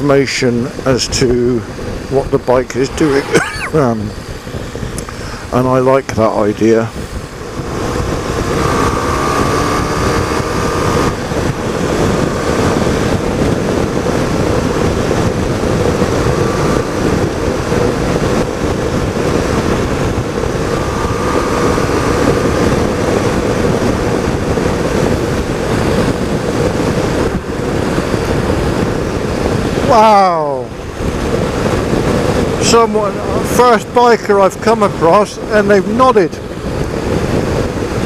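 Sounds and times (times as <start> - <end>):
wind rushing over microphone: 0.0 - 38.0
motorcycle engine running: 1.6 - 38.0.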